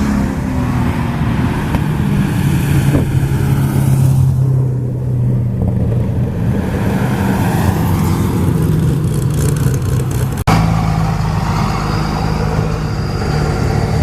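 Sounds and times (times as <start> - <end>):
car engine droning: 0.0 - 14.0.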